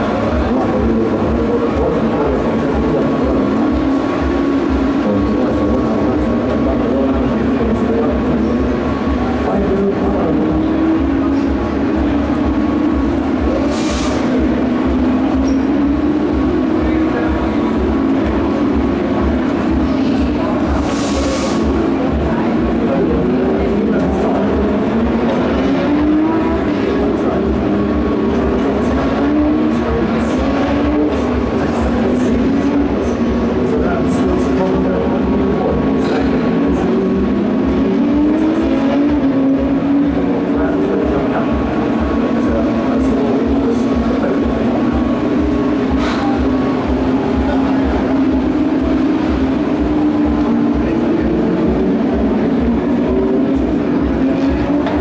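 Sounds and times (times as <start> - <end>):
loud mechanical drone: 0.0 - 55.0
race car engines accelerating: 0.0 - 55.0.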